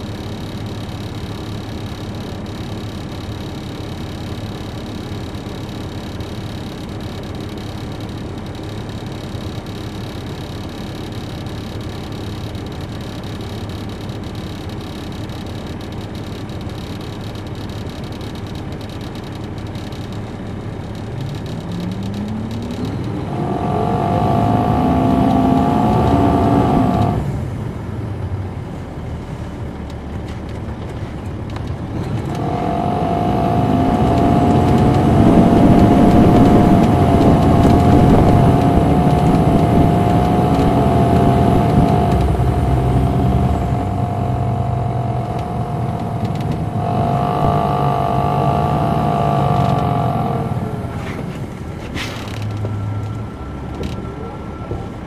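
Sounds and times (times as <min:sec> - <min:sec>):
high whine: 0:00.0 - 0:27.4, 0:31.9 - 0:51.5
diesel engine revving: 0:00.0 - 0:28.6, 0:31.3 - 0:55.0.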